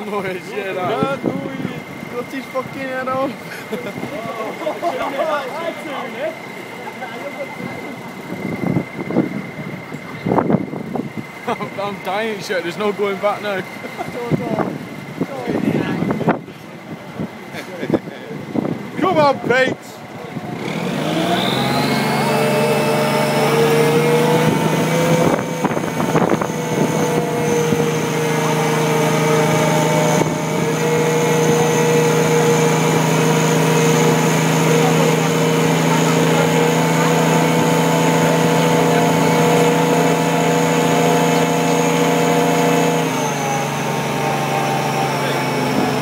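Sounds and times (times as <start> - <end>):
crane engine at raised revs: 0.0 - 46.0.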